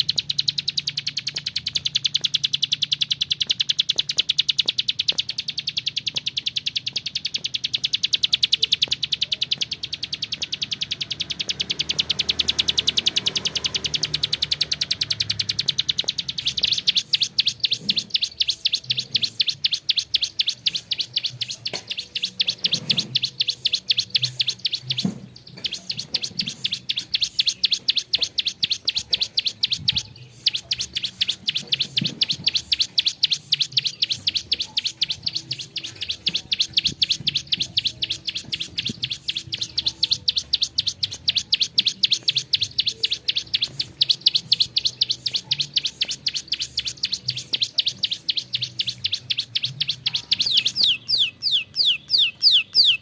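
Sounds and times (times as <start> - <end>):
bird singing rapid high trill: 0.0 - 53.0.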